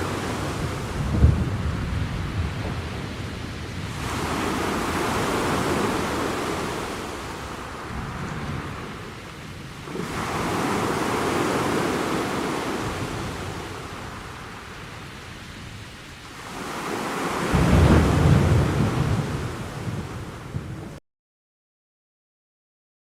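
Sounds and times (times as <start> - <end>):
deep rumble of surf: 0.0 - 21.0
sea waves breaking on shore: 0.0 - 21.0.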